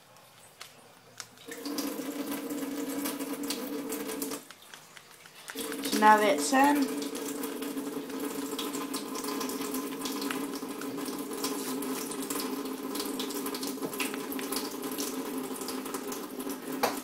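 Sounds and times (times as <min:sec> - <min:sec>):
water running and splashing: 0:00.0 - 0:17.0.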